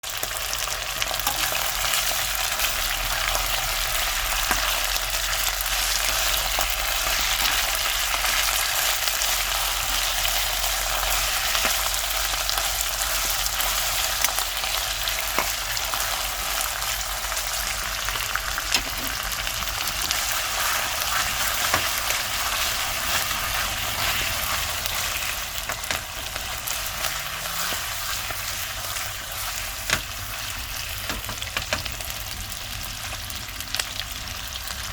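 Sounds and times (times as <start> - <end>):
food sizzling in hot oil: 0.0 - 34.9.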